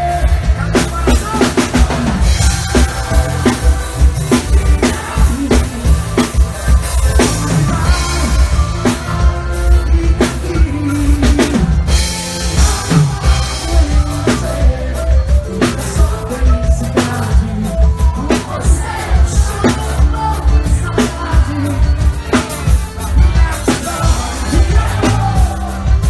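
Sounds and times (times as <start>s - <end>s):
drum kit beat: 0.0s - 26.0s
live band playing: 0.0s - 26.0s.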